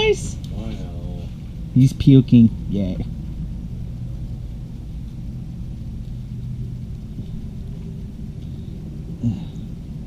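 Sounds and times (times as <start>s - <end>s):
low rumble with hum: 0.0s - 10.0s.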